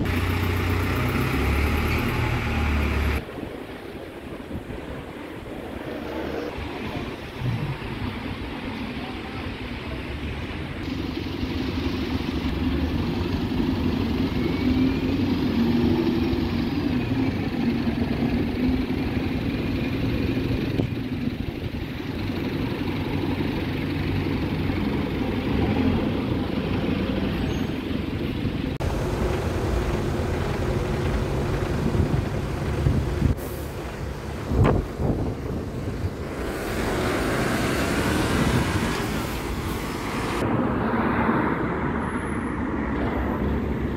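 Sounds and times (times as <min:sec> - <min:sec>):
bus engines running: 0:00.0 - 0:43.9
street traffic: 0:00.0 - 0:43.9.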